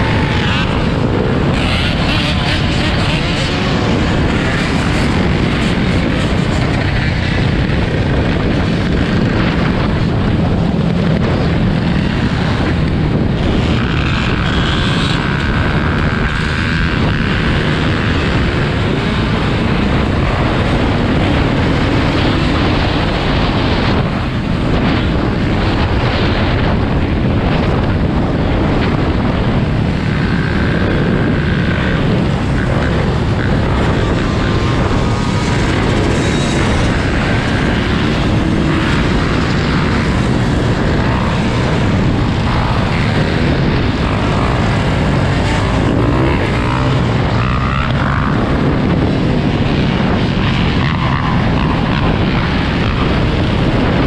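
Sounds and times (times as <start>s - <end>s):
dirt bike engines running: 0.0s - 54.0s
high engine whine: 0.0s - 54.0s
wind buffeting microphone: 0.0s - 54.0s.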